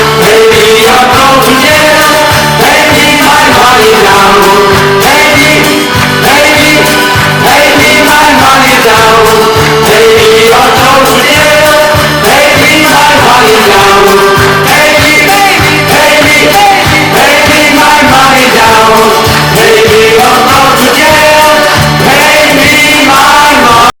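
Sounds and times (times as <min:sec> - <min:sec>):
folk band playing upbeat song: 0:00.0 - 0:23.9.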